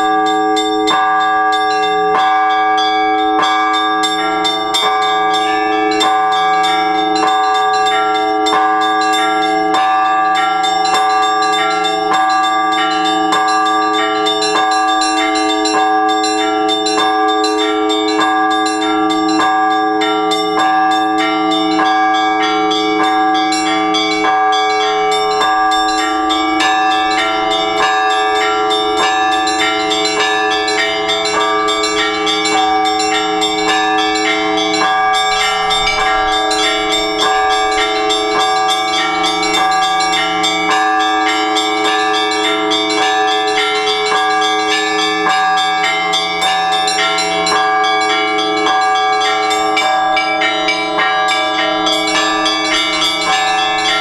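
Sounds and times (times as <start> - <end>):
deeper bells ringing: 0.0 - 54.0
small bells struck rapidly: 0.0 - 54.0.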